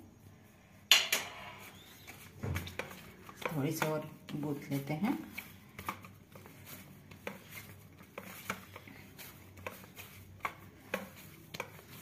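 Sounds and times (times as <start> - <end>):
dough slapping and pressing: 1.6 - 12.0.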